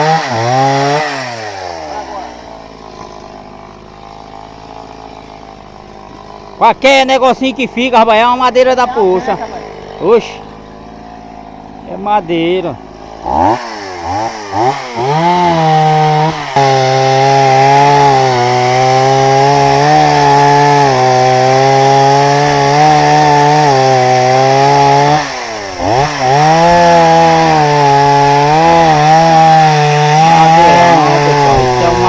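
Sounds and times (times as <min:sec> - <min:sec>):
chainsaw cutting log: 0:00.0 - 0:32.0.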